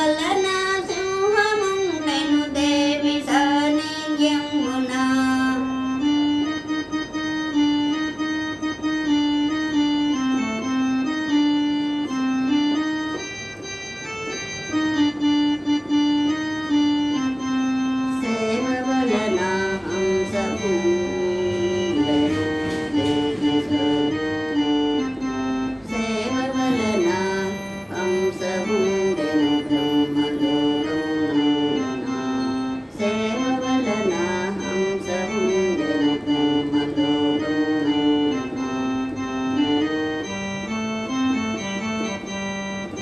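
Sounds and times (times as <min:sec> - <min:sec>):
electronic keyboard organ melody: 0:00.0 - 0:43.0.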